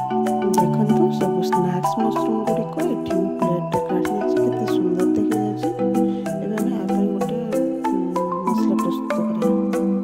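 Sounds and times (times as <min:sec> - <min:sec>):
background music with struck notes: 0:00.0 - 0:10.0.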